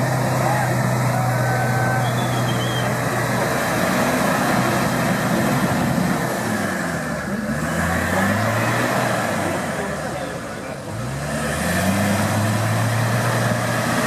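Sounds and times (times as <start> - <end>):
steady wash of noise: 0.0 - 14.0
vehicle engine running: 0.0 - 14.0.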